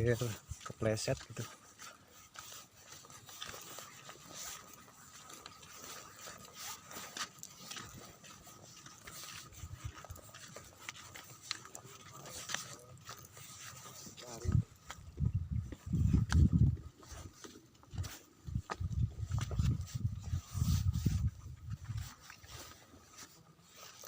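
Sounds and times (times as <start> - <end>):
flip-flop footsteps on gravel: 0.0 - 24.0.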